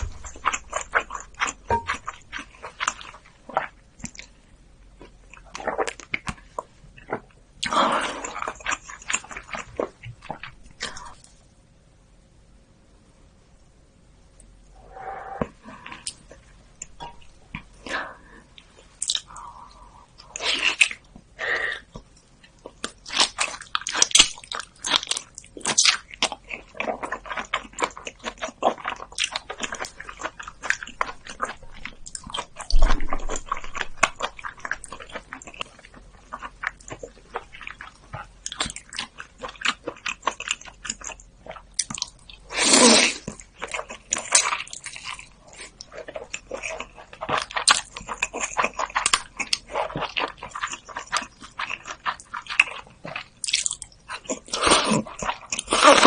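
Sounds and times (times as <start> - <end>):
biting and wet chewing: 0.0 - 11.4, 18.5 - 56.0.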